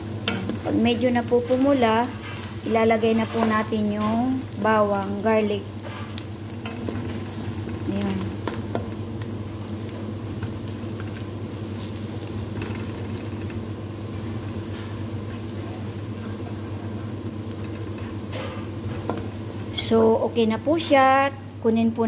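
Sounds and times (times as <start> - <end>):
onion sizzling in oil: 0.0 - 21.7.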